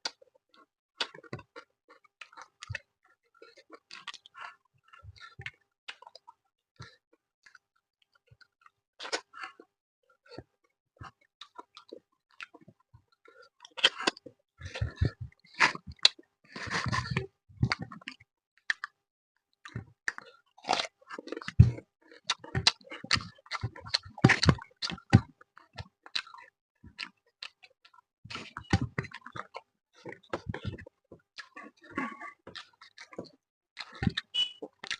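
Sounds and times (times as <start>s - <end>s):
wet chewing and mouth smacks: 0.0s - 9.7s, 11.1s - 19.0s, 19.6s - 34.9s.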